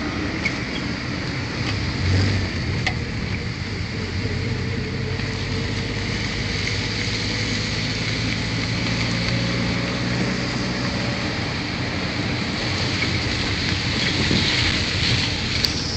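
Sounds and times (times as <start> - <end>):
road and wind noise: 0.0 - 15.9
vehicle engine running: 0.0 - 15.9.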